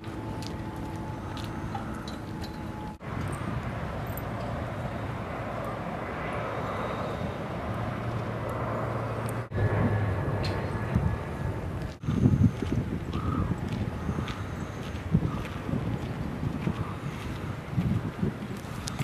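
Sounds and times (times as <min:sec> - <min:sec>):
outdoor background rumble: 0:00.0 - 0:19.0.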